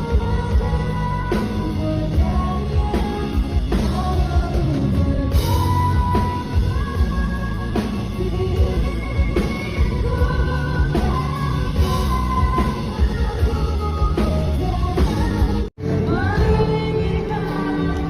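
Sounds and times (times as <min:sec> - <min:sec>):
band with drums and bass: 0:00.0 - 0:18.0
woman singing: 0:00.0 - 0:18.0.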